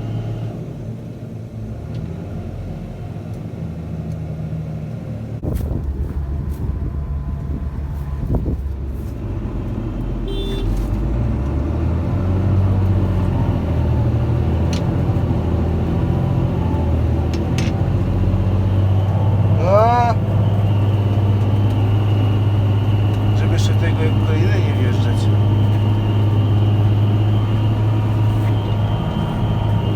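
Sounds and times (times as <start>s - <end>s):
diesel engines under load: 0.0s - 29.9s.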